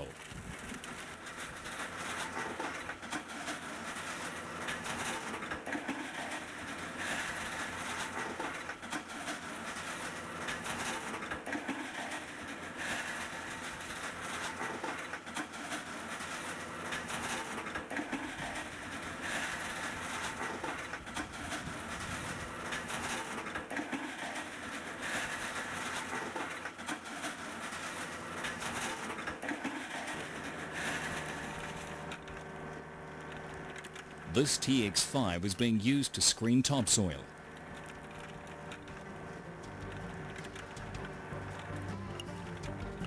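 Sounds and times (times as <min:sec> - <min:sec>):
excavator engine and hydraulics: 0:00.0 - 0:43.0.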